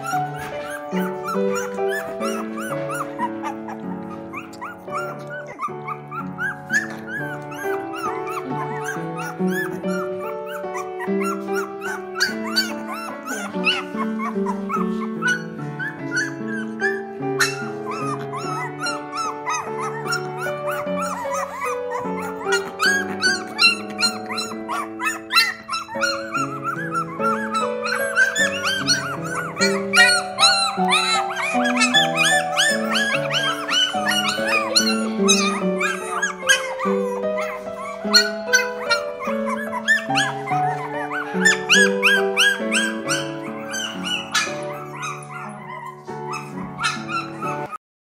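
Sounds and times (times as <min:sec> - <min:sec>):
background music: 0:00.0 - 0:47.8
puppies whimpering and yipping: 0:00.0 - 0:47.8.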